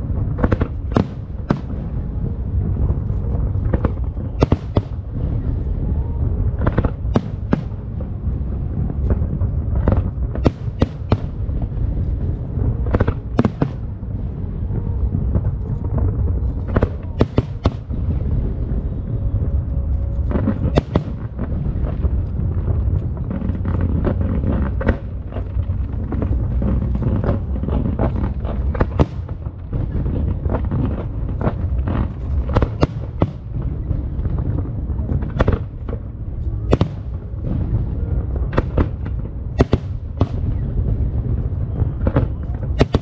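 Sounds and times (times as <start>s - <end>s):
fireworks booming and crackling: 0.0s - 43.0s.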